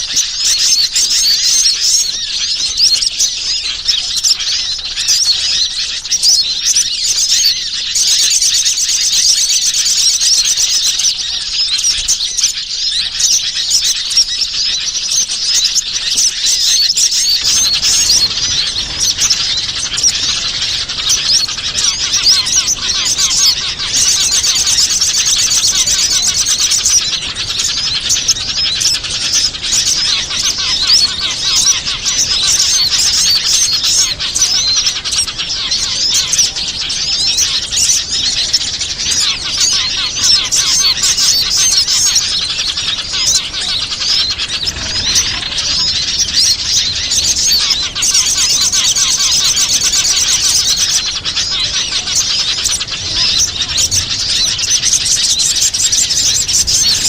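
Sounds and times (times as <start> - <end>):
fast buzzy bird trill: 0.0 - 57.0
small birds chirping: 0.0 - 57.0.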